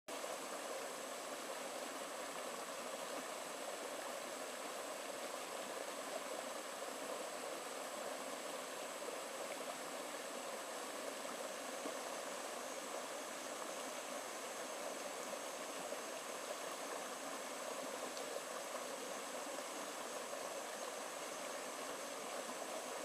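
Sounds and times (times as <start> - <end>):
stream babbling over stones: 0.1 - 23.0.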